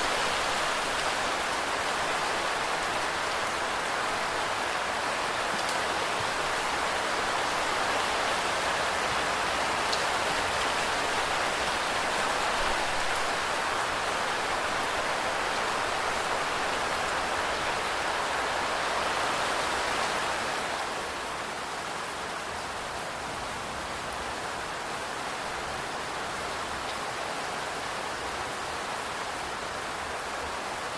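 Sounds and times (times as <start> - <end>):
steady rain: 0.0 - 30.9.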